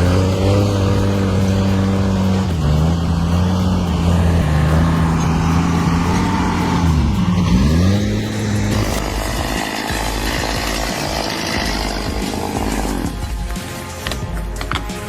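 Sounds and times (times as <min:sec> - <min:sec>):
engine running at high revs: 0:00.0 - 0:15.0.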